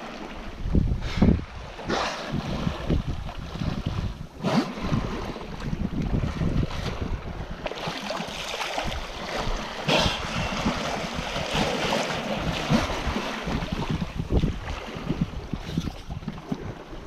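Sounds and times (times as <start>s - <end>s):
water splashing along a hull: 0.0s - 17.0s
wind buffeting microphone: 0.0s - 17.0s.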